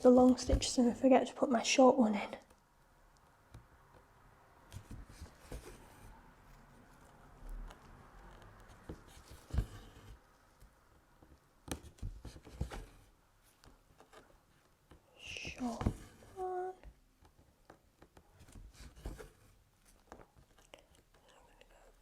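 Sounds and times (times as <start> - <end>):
needle and thread rustling through fabric: 0.0 - 3.3, 4.0 - 22.0.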